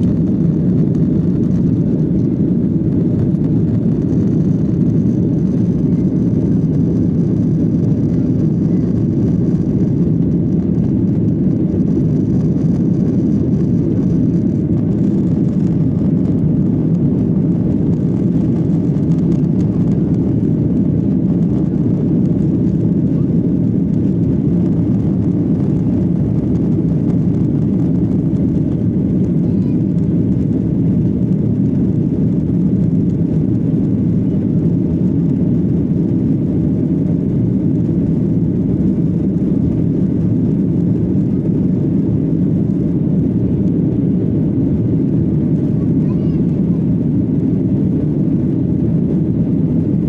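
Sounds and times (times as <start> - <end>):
jet engine and airflow rumble: 0.0 - 50.0.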